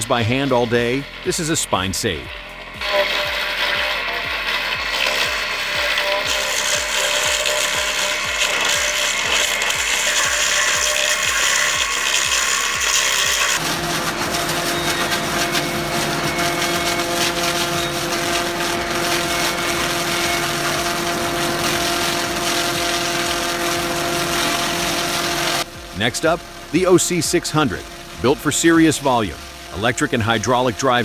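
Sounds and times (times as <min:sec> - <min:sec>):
machine hum: 0:00.0 - 0:31.0
rhythmic mechanical clatter: 0:00.0 - 0:31.0
wood scraping and rubbing: 0:00.0 - 0:31.0.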